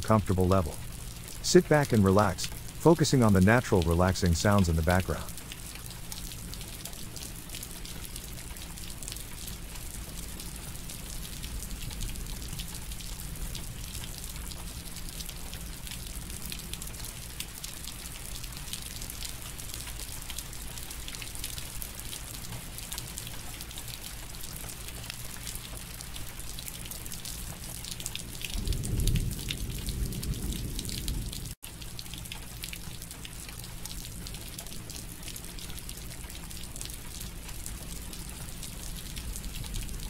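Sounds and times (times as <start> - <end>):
rain falling steadily: 0.0 - 40.0.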